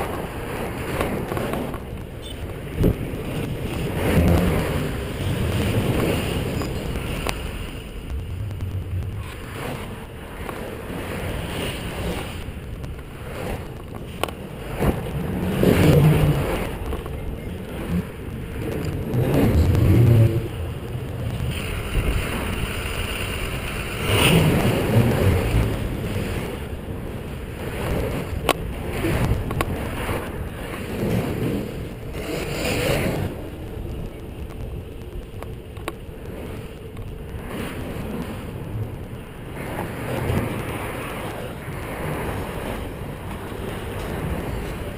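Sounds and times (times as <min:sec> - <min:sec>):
steady low rumble: 0:00.0 - 0:44.9
wind rushing over microphone: 0:00.0 - 0:44.9.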